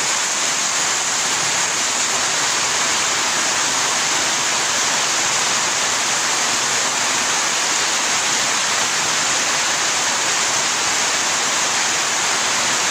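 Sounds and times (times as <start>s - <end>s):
heavy rain falling: 0.0s - 12.9s
runoff pouring off a roof: 0.0s - 12.9s.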